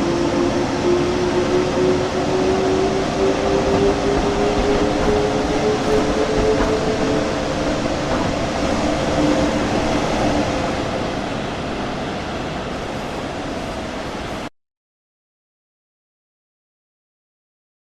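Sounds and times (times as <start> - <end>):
electric locomotive whine: 0.0 - 14.5
train rolling noise: 0.0 - 14.5.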